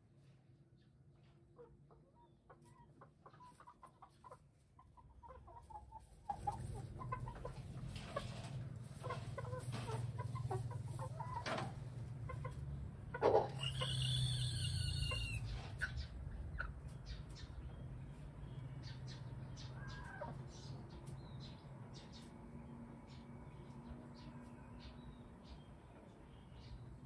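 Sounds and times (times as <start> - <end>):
chickens clucking: 0.2 - 27.0.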